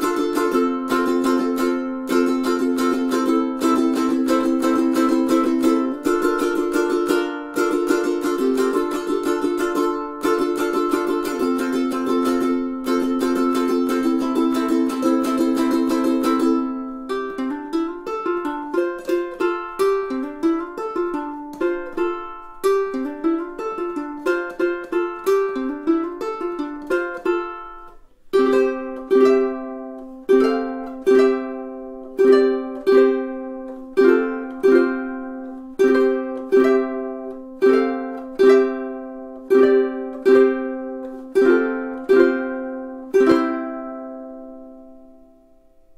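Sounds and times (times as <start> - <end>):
ukulele fingerpicked notes: 0.0 - 45.9
ukulele strummed chords: 0.0 - 45.9.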